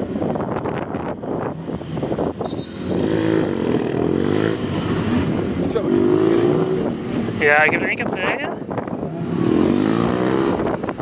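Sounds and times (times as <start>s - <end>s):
motorcycle engine revving: 0.2s - 11.0s.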